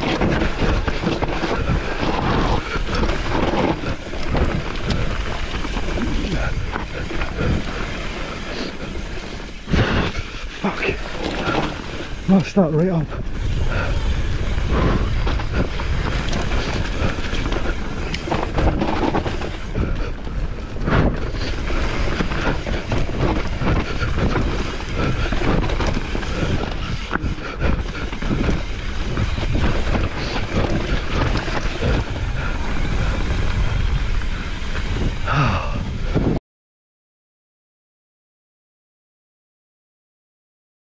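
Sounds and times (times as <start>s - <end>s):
bike rattling: 0.0s - 36.4s
tyres rolling over trail: 0.0s - 36.4s
wind rushing over microphone: 0.0s - 36.4s.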